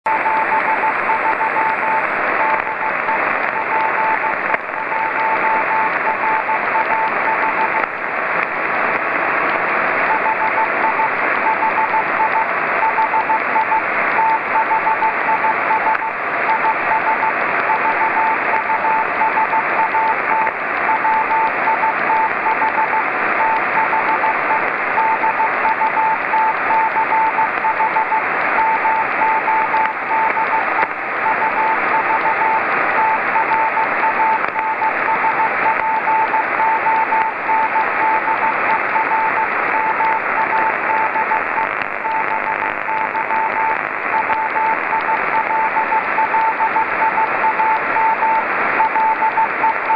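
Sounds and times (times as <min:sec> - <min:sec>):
morse code tone: 0:00.1 - 0:07.9, 0:08.9 - 0:49.9
radio receiver hiss: 0:00.1 - 0:49.9.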